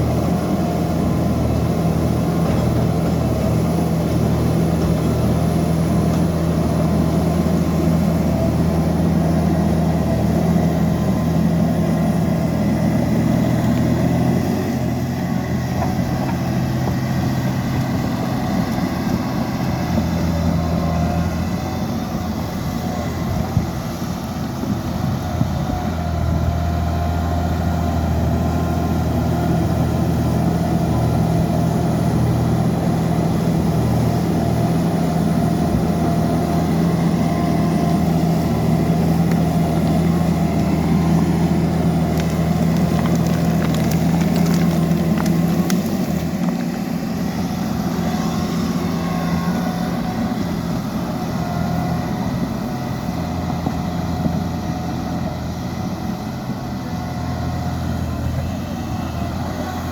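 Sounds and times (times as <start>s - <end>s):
dozer diesel engine running: 0.0s - 59.9s.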